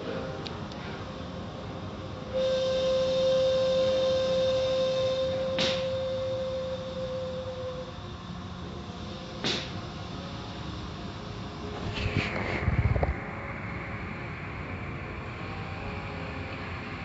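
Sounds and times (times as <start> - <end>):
car wash machinery whine: 0.0 - 17.0.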